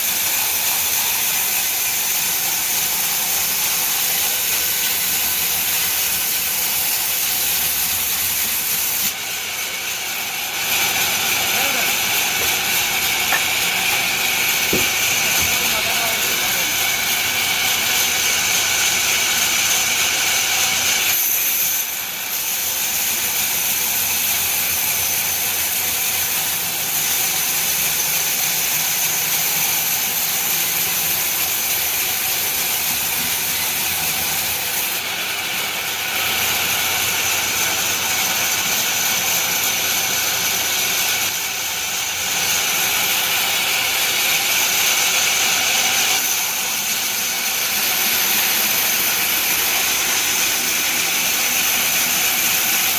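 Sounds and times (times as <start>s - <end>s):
sawmill saw running: 0.0s - 52.9s.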